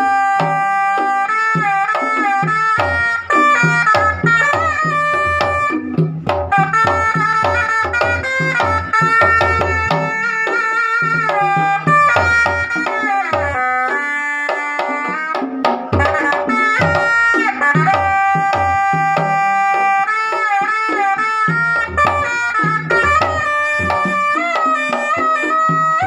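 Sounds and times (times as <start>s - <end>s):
hand drums beating: 0.0s - 26.0s
wind instrument melody: 0.0s - 26.0s.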